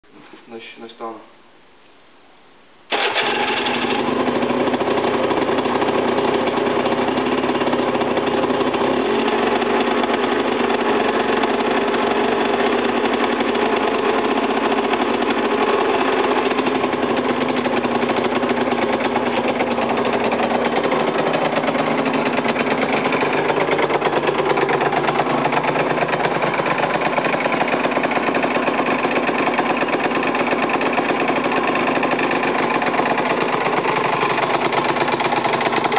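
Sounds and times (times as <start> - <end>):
two-stroke engine starting and idling: 2.9 - 35.9.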